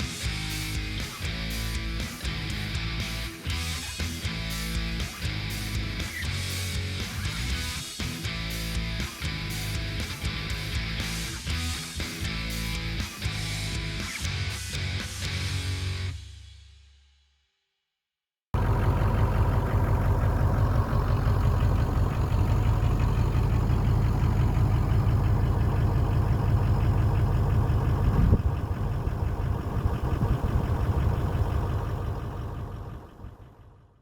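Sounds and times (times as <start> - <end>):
engine running with deep pulse: 0.0 - 15.6, 18.6 - 34.0.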